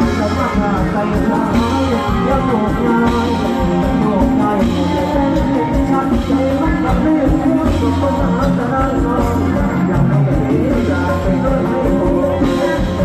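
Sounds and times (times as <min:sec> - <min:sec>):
live band music: 0:00.0 - 0:13.0
person singing: 0:00.0 - 0:13.0.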